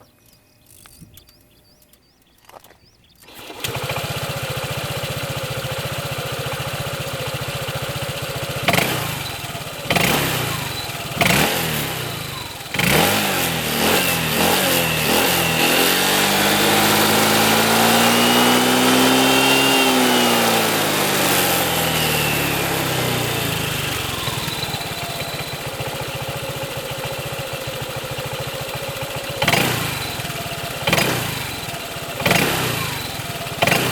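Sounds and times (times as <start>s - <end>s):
scooter engine idling and revving: 0.7s - 33.9s.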